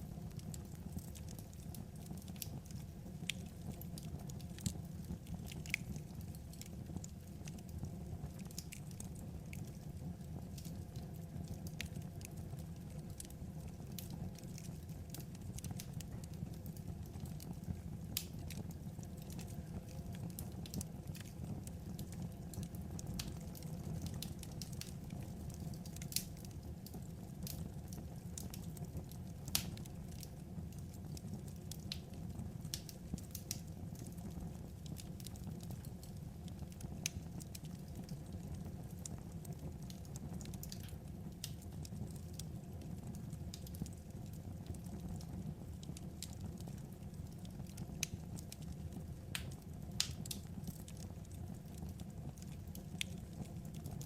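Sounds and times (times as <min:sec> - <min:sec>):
low rumble of burning logs: 0:00.0 - 0:54.0
wood fire crackling: 0:00.0 - 0:54.0.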